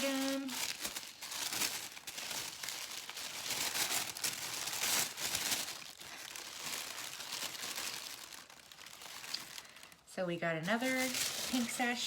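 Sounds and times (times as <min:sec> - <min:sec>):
paper packaging crinkling: 0:00.0 - 0:12.0.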